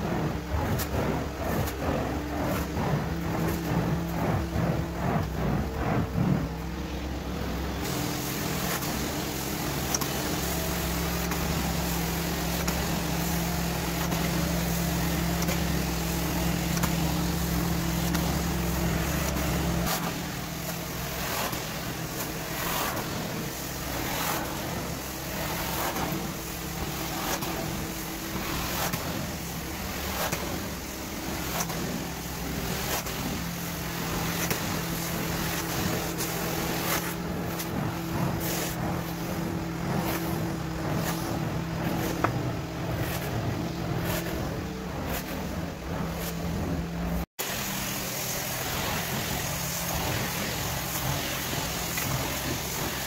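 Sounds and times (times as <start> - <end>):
vacuum suction rushing: 0.0 - 47.3
machine hum: 0.0 - 53.0.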